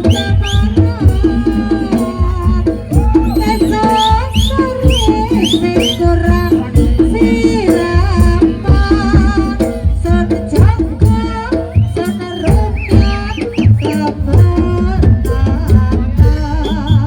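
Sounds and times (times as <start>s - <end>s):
drumming and percussion: 0.0s - 17.0s.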